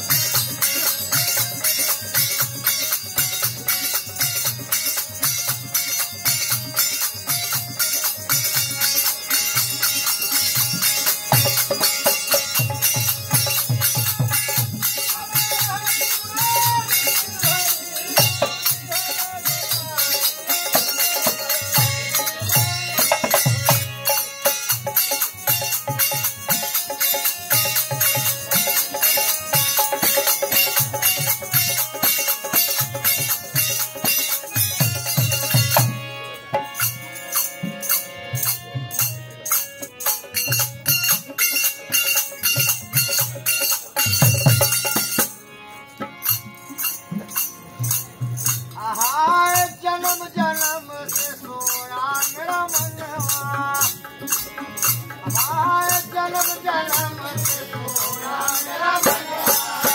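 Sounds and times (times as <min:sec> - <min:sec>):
dholak drum rhythm: 0:00.0 - 0:59.9
metallic jingling percussion: 0:00.0 - 0:59.9.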